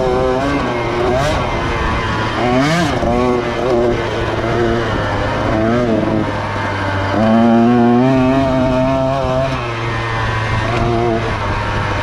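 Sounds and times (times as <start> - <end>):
racing engines revving: 0.0 - 12.0.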